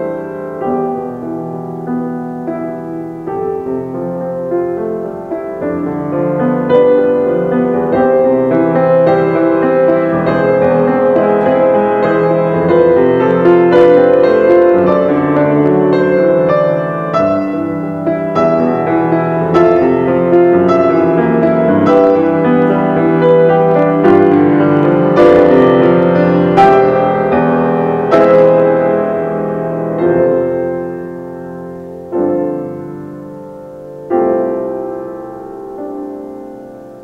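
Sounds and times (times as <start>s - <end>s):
slow piano music: 0.0s - 37.0s.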